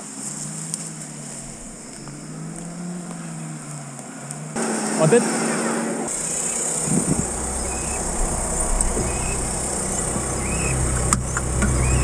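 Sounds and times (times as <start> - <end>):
vehicle engine idling: 0.0 - 5.2, 6.0 - 12.0.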